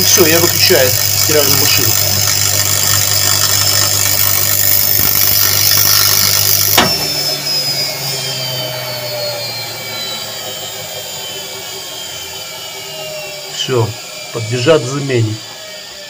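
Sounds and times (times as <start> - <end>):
washing machine motor running: 0.0 - 16.0.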